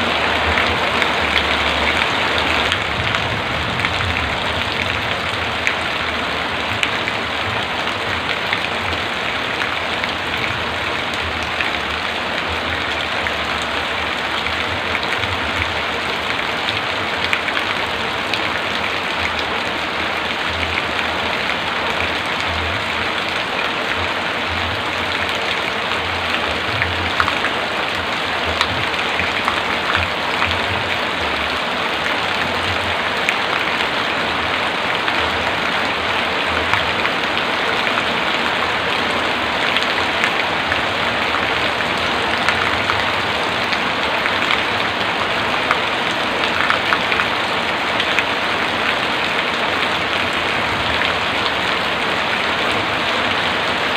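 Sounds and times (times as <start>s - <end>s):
heavy rain hissing: 0.0s - 53.9s
raindrops ticking close by: 0.0s - 53.9s.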